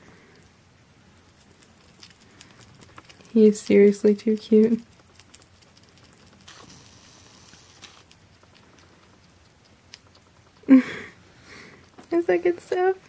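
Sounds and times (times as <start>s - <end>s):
small animal chewing: 0.0s - 13.0s.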